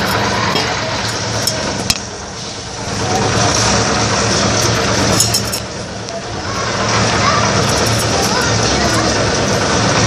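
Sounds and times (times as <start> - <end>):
concrete mixer engine running: 0.0 - 10.0.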